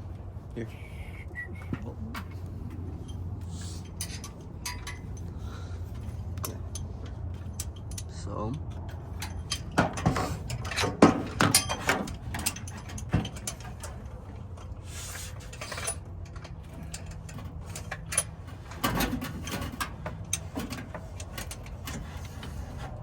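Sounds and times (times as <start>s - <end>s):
metal tools and parts clinking: 2.2s - 23.0s.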